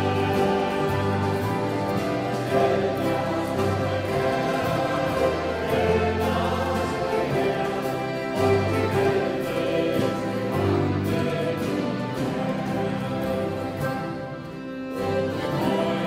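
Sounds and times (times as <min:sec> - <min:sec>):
accordions playing chords: 0:00.0 - 0:16.0
congregation singing a hymn: 0:00.0 - 0:16.0.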